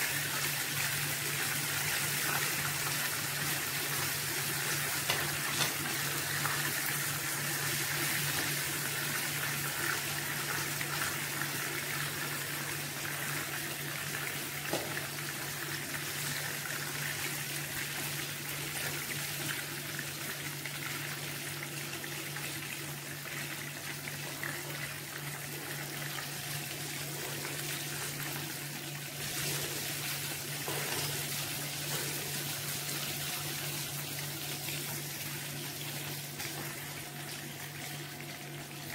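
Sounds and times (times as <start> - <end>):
chicken sizzling in hot oil: 0.0 - 38.8.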